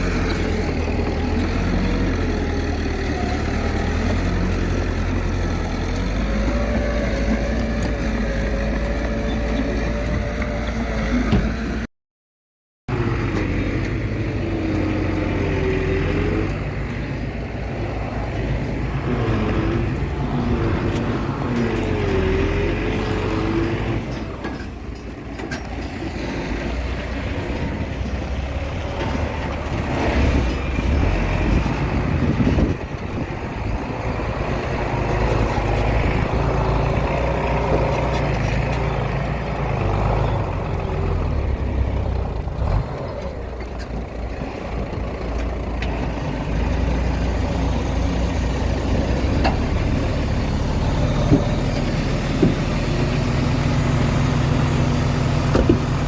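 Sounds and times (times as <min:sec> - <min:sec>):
diesel machinery engine: 0:00.0 - 0:11.9, 0:12.9 - 0:56.0.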